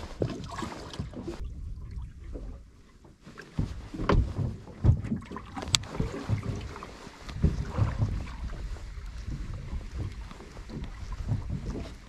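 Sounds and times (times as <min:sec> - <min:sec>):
knocks and bumps aboard boat: 0:00.0 - 0:12.0
wind and water noise: 0:00.0 - 0:12.0.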